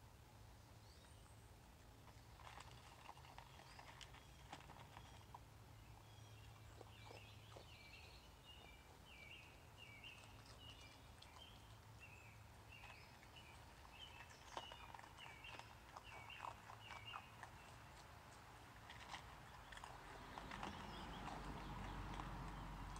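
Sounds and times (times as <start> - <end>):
songbird chirping: 0.0 - 22.9.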